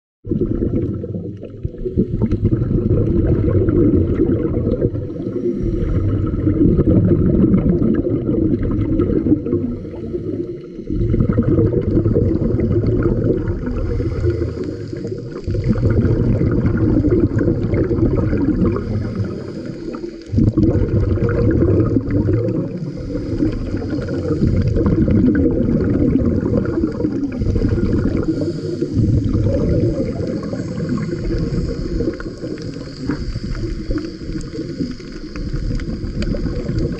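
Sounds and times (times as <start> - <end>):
diver exhaling bubbles underwater: 0.2 - 36.9.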